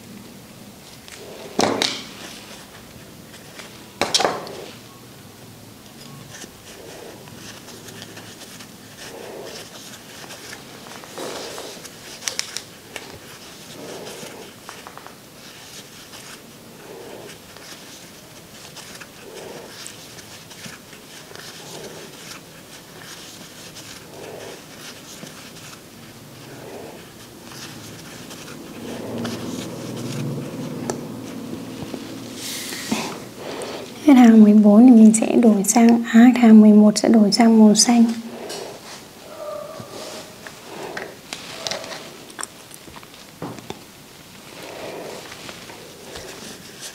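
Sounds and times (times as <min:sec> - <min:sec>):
soft breaths: 0:00.8 - 0:05.0, 0:05.8 - 0:43.3, 0:44.0 - 0:46.9
yarn and crochet hook rustling: 0:05.9 - 0:46.9.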